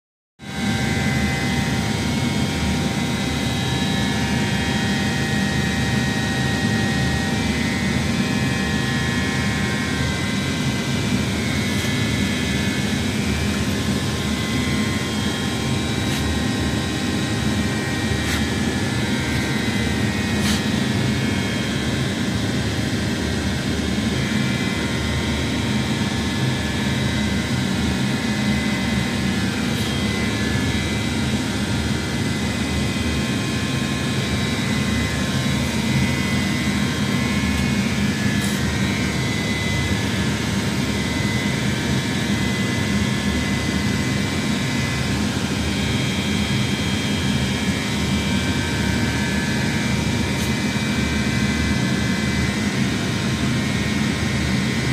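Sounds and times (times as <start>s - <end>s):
machine droning with whine: 0.4s - 54.9s.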